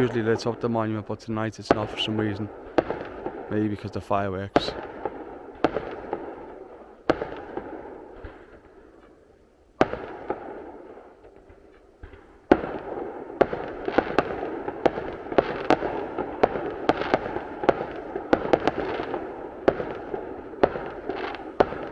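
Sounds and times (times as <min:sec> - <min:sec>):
fireworks bangs: 0:00.0 - 0:21.9.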